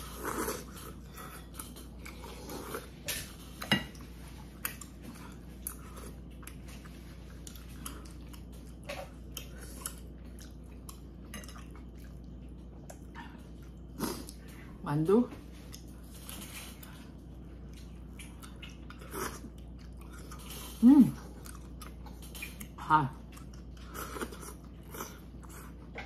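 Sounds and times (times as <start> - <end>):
person chewing: 0.0 - 14.5, 15.6 - 26.0.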